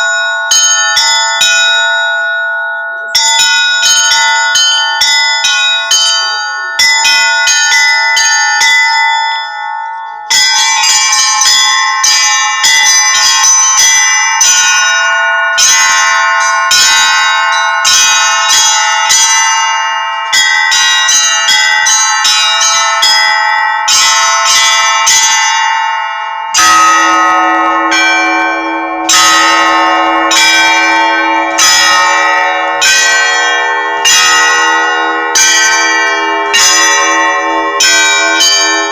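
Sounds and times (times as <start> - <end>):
church bells pealing: 0.0 - 38.9
deep bell: 0.0 - 38.9.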